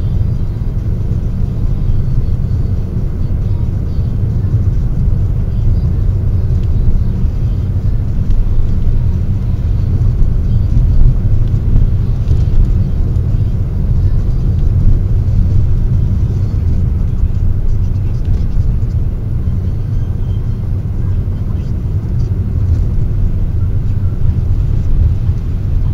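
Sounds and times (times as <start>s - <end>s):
car engine rumble: 0.0s - 25.9s.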